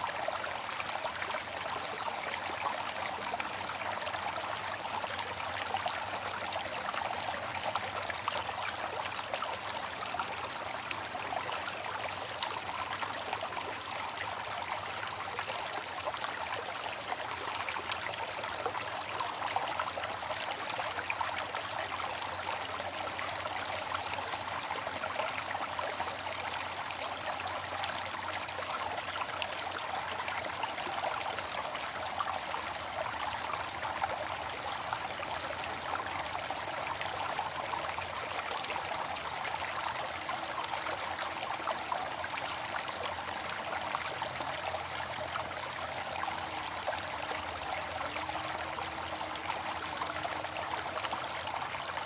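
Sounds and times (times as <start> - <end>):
fountain splashing and trickling: 0.0 - 52.0.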